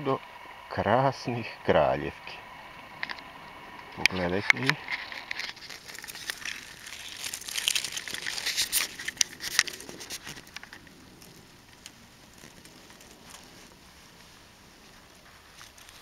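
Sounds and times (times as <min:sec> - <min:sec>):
dry leaves rustling and crackling: 0:02.8 - 0:16.0
leaves crunching: 0:02.8 - 0:16.0.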